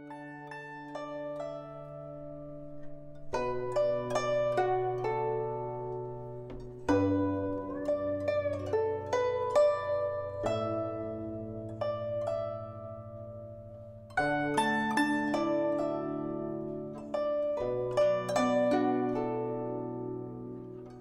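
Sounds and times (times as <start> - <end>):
plucked-string melody: 0.0 - 21.0.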